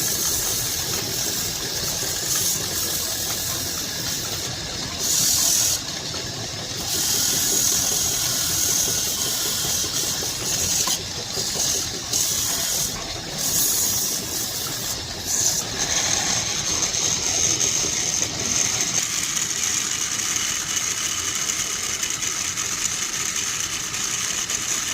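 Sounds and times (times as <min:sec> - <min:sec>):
power tool hissing: 0:00.0 - 0:21.1.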